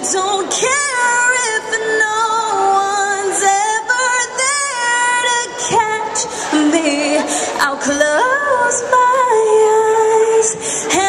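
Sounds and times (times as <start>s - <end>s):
woman singing a cappella: 0.0s - 11.0s.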